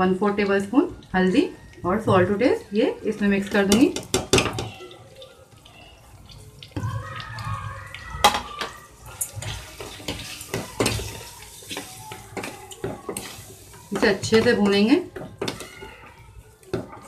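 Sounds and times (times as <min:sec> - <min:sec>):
masala sizzling: 0:00.0 - 0:17.0.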